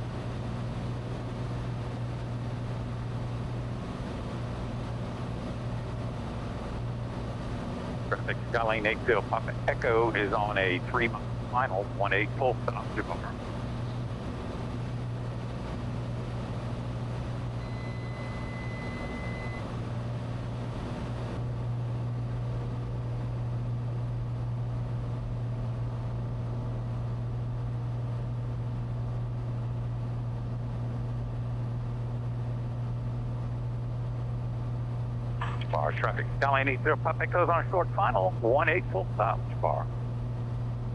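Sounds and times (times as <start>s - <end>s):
airplane engine and propeller droning: 0.0s - 40.9s.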